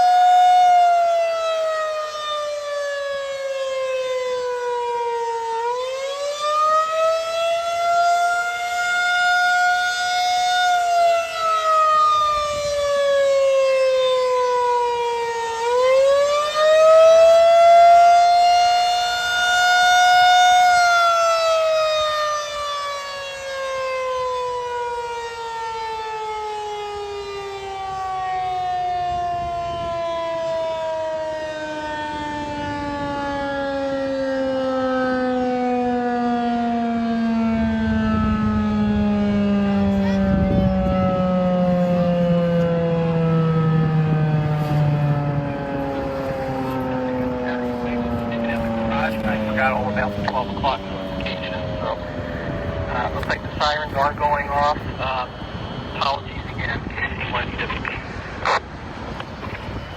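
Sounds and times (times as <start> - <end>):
tornado warning siren wailing: 0.0 - 59.9.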